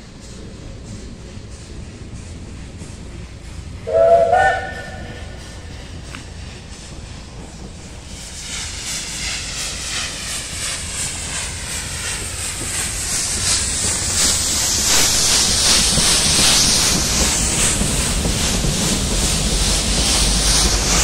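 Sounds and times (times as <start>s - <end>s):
steam hissing: 0.0s - 21.0s
steam locomotive exhaust chuffs: 0.0s - 21.0s.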